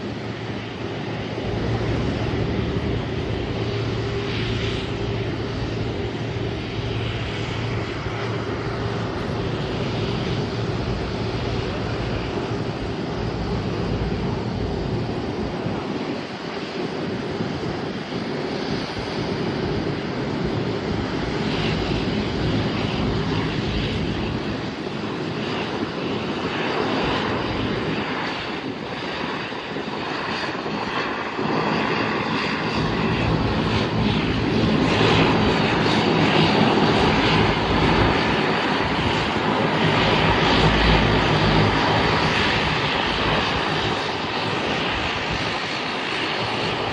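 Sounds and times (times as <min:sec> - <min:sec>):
airliner engines running: 0:00.0 - 0:46.9.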